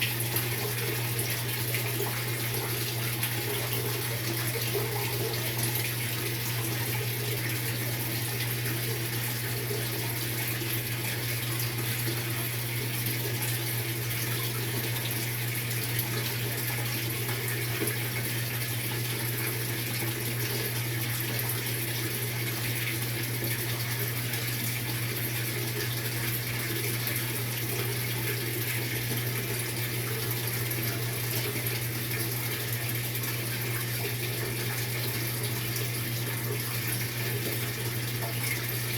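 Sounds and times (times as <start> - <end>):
water pouring into washing machine: 0.0 - 38.9.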